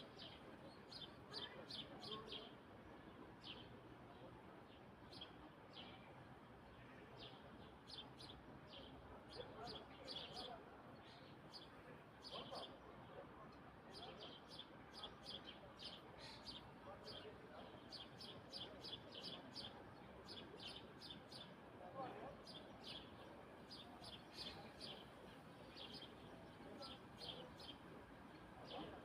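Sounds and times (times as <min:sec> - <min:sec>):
faint small birds chirping: 0:00.0 - 0:29.0
low background hiss: 0:00.0 - 0:29.0.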